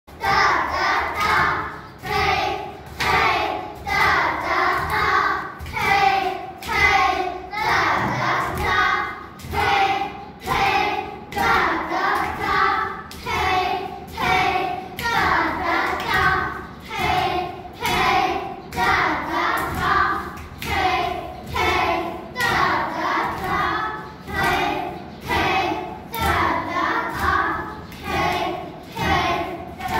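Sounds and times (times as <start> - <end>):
children chanting in unison: 0.1 - 29.9.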